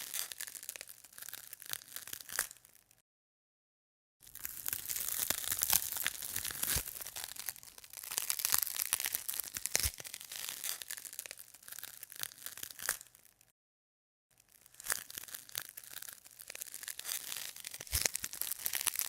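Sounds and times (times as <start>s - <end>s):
dense crackling and crinkling: 0.0s - 3.0s, 4.2s - 13.6s, 14.3s - 19.0s.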